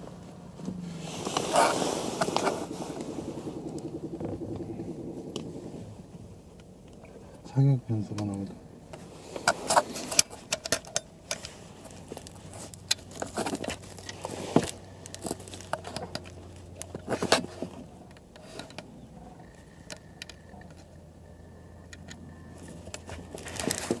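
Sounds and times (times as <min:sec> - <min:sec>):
handling noise clicks and rustles: 0:00.0 - 0:21.0, 0:21.8 - 0:24.0
low steady hum: 0:00.0 - 0:24.0.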